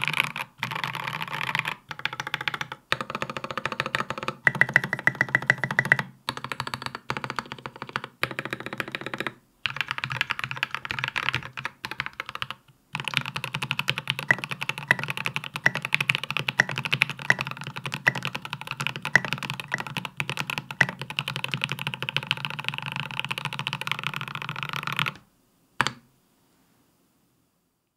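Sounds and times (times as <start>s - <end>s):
mechanical keyboard typing: 0.0s - 25.2s.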